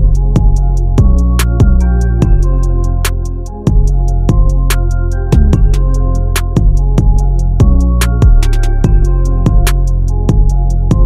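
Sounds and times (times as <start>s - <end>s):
music with fast percussive beat: 0.0s - 11.0s.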